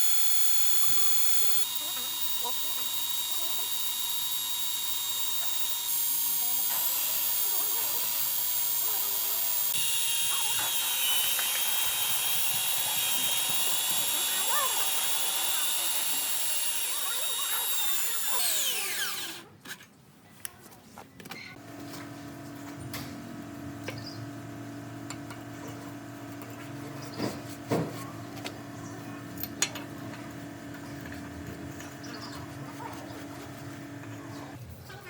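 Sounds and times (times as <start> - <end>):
power tool whine: 0.0 - 19.4, 21.6 - 34.6.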